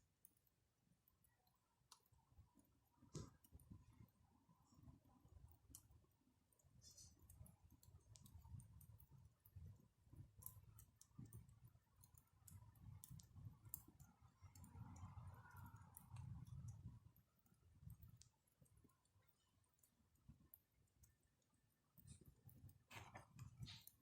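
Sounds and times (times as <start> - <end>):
campfire crackling: 0.2 - 24.0.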